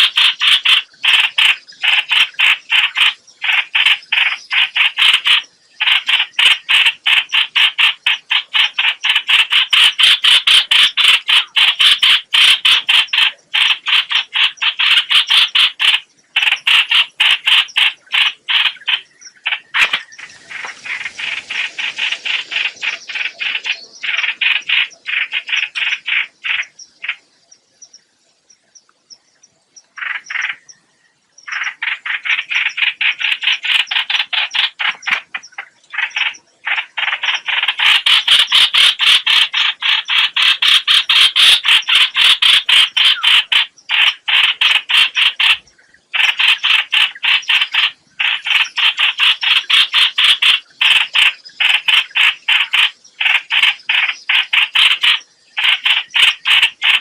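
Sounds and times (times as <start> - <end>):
bird giving harsh croaking notes: 0.0 - 28.1, 29.8 - 57.0.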